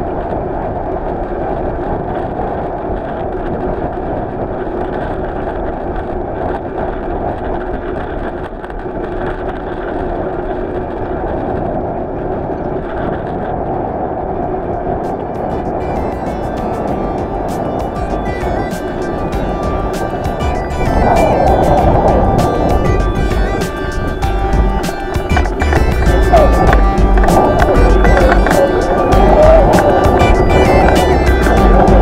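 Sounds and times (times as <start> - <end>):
bicycle road noise: 0.0 - 32.0
rushing wind: 0.0 - 32.0.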